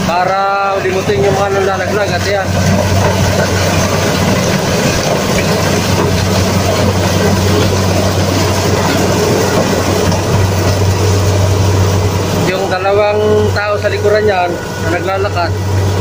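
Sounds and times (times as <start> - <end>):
combine harvester drone: 0.0 - 16.0
machinery rattle: 0.0 - 16.0.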